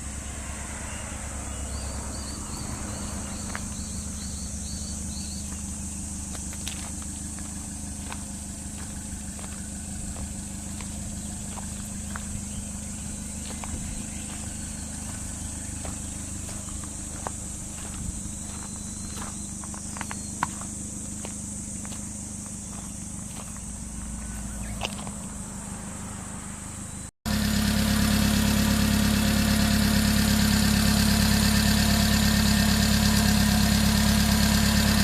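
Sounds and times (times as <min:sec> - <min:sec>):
small car engine idling: 0:00.0 - 0:35.0.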